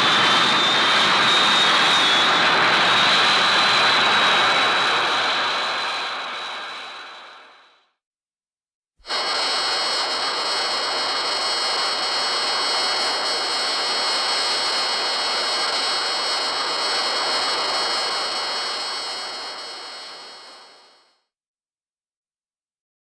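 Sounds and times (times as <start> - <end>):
high steady whining tones: 0.0 - 7.8, 9.1 - 21.2
jet-like rushing hiss: 0.0 - 7.8, 9.0 - 21.2.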